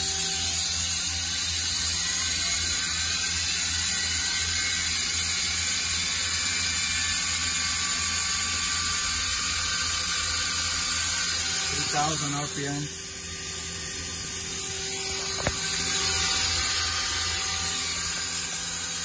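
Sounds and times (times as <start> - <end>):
machine spindle motor hum: 0.0 - 19.0.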